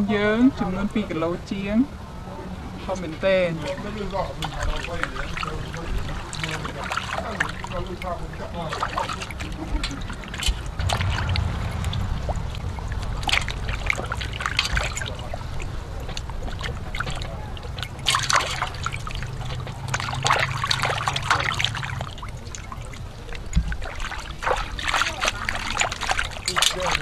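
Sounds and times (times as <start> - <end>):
water splashing in a steel bowl: 3.2 - 27.0.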